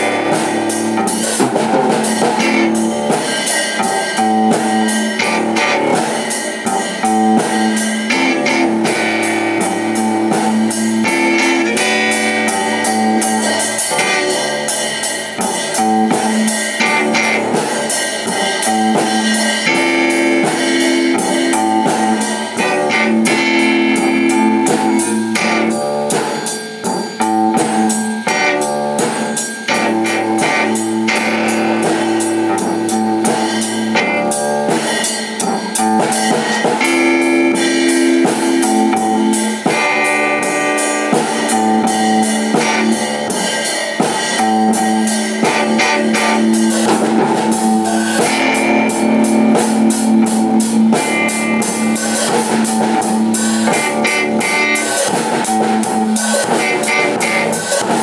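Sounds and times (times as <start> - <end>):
drum kit beat: 0.0 - 58.0
electric guitars playing: 0.0 - 58.0.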